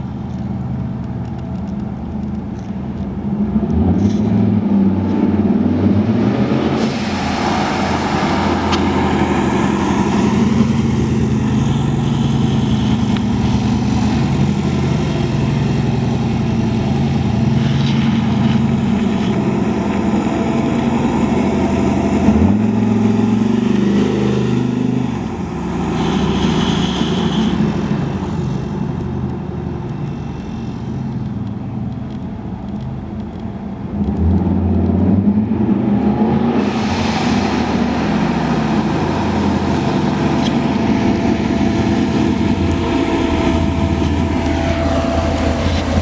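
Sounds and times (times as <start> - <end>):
car engine driving by: 0.0 - 46.0.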